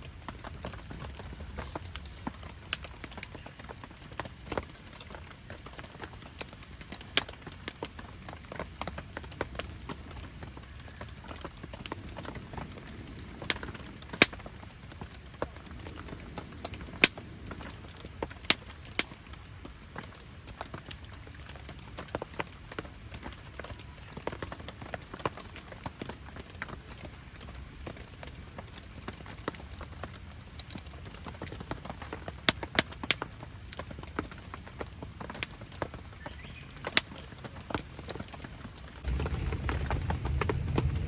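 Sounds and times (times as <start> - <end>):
campfire crackling and popping: 0.0 - 41.0
rain: 0.0 - 41.0.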